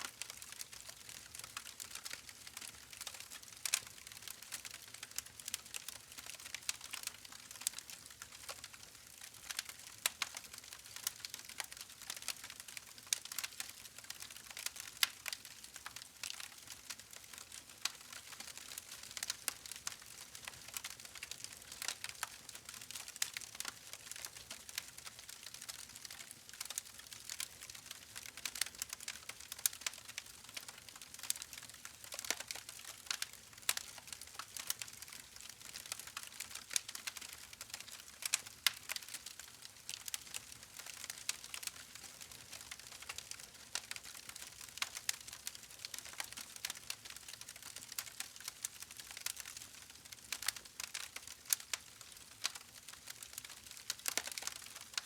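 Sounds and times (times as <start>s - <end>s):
campfire crackling and popping: 0.1s - 55.0s.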